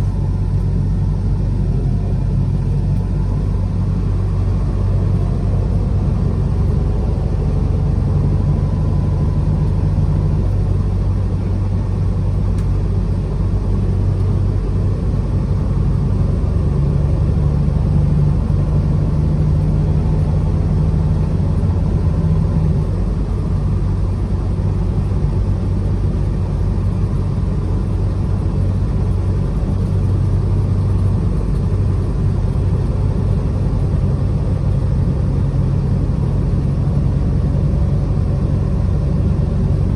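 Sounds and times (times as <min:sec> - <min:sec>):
road noise: 0:00.0 - 0:39.9
truck engine droning: 0:00.0 - 0:39.9.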